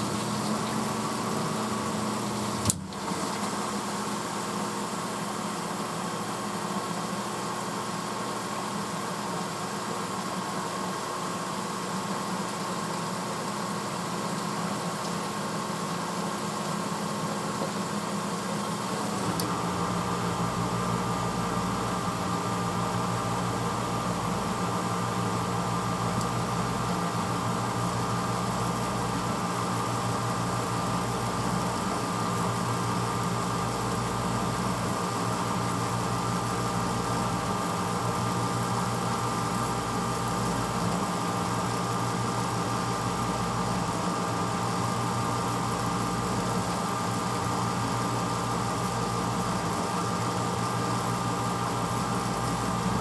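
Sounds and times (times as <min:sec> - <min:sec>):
dishwasher motor hum: 0:00.0 - 0:53.0.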